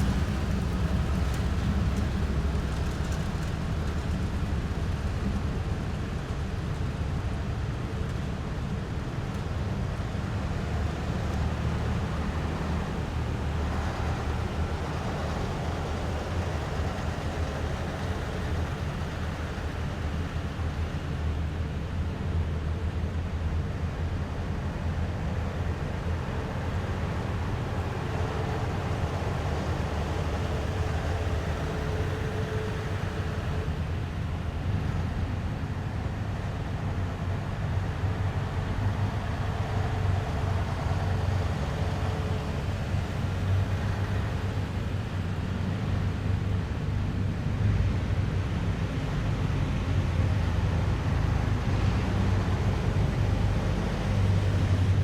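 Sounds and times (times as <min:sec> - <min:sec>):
faint engine whine: 0:00.0 - 0:55.0
heavy vehicle engines rumbling: 0:00.0 - 0:55.0.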